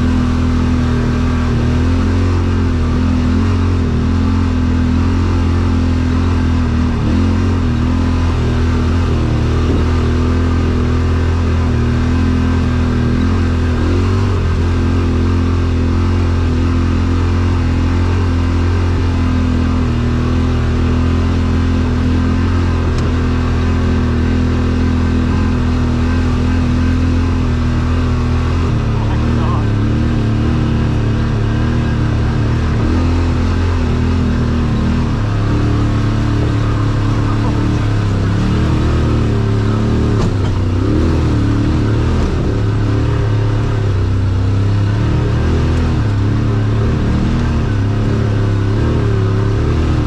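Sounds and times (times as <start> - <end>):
vehicle engine droning: 0.0 - 50.0.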